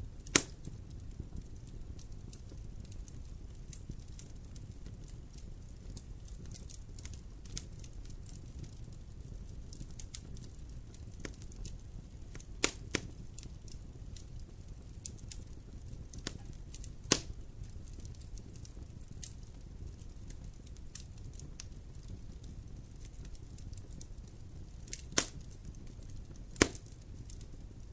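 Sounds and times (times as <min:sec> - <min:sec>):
sharp pops of fire: 0:00.0 - 0:27.9
wood fire crackling: 0:00.0 - 0:27.9.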